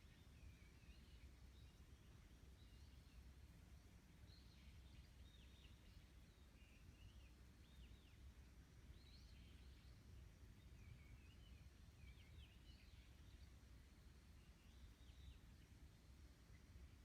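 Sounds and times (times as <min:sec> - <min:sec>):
bird chirping: 0:00.0 - 0:03.3, 0:04.2 - 0:08.3, 0:08.9 - 0:16.8.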